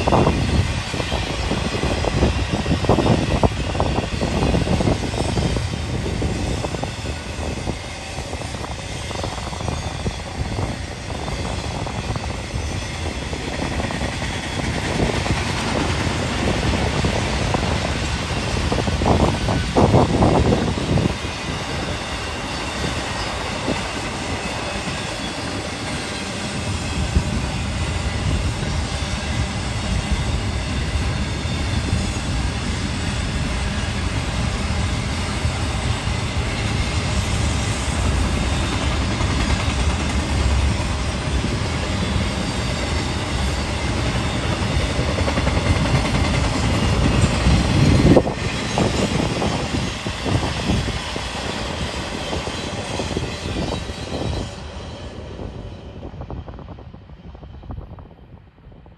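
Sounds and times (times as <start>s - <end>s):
train wheels clattering on track: 0.0s - 57.2s.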